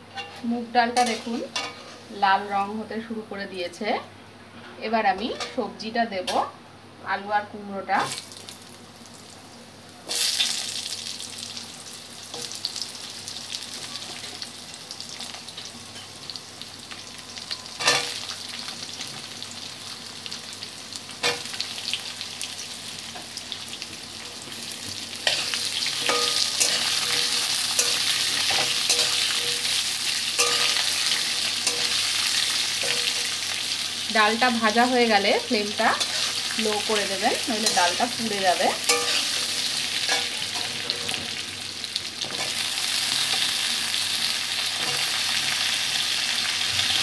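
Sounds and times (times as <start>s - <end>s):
vegetables sizzling in hot oil: 0.0s - 3.9s, 5.0s - 47.0s.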